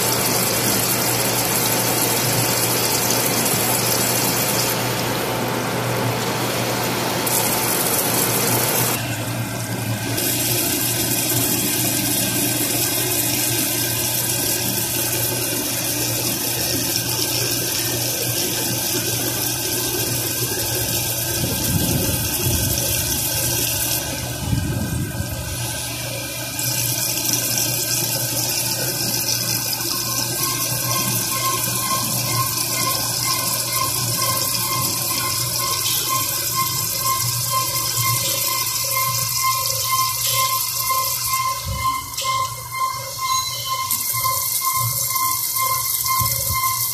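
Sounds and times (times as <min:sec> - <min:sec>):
coolant pouring and splashing: 0:00.0 - 0:42.2, 0:43.8 - 0:46.9
low machine hum: 0:00.0 - 0:46.9.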